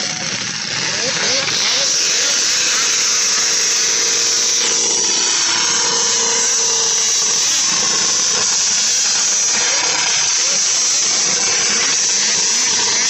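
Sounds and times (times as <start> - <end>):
snowmobile engine buzzing: 0.0 - 13.0.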